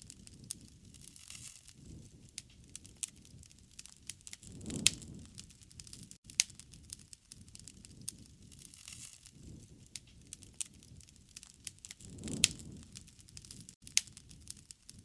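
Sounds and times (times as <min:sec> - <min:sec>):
low rush of flame: 0:00.0 - 0:15.0
wood fire crackling: 0:00.0 - 0:15.0.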